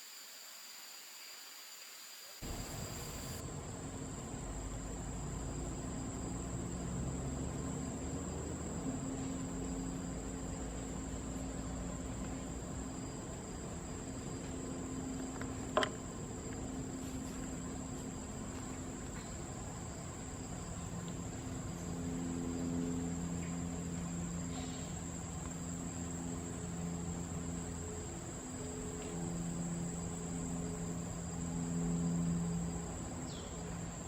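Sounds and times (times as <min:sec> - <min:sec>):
forest insects droning: 0:00.0 - 0:34.0
low background hum: 0:02.4 - 0:34.0.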